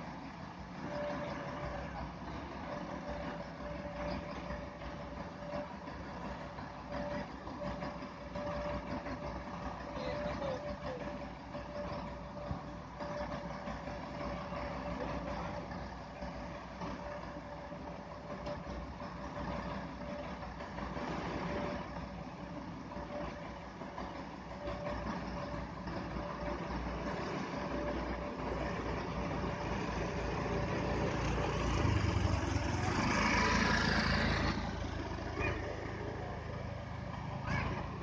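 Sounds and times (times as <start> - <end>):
diesel truck engines running: 0.0 - 38.0.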